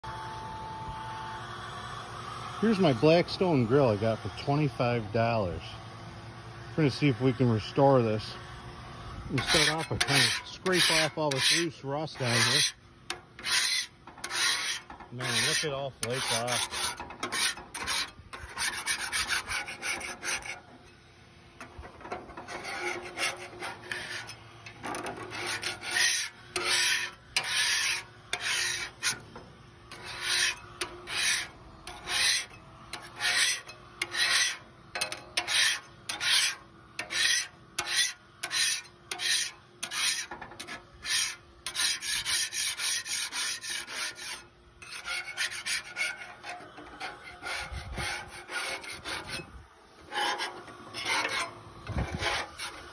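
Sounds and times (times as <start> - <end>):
metal scraper scraping rusty steel: 2.7 - 5.6, 9.3 - 52.9.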